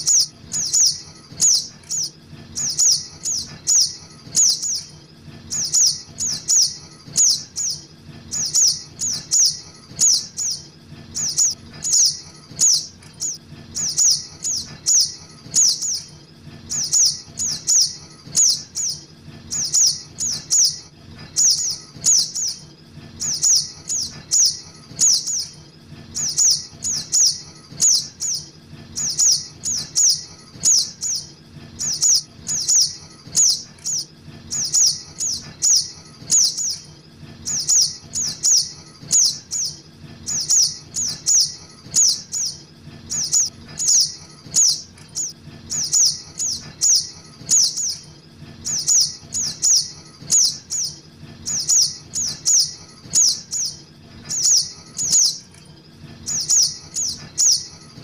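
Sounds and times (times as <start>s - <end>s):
high-pitched bird chirps: 0.0s - 55.6s, 56.2s - 58.0s.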